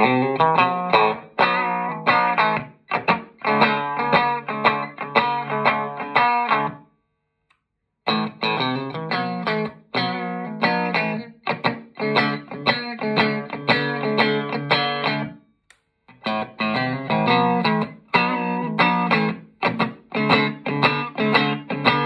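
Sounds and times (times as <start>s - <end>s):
electric guitar rhythmic chords: 0.0s - 6.8s, 8.0s - 22.0s.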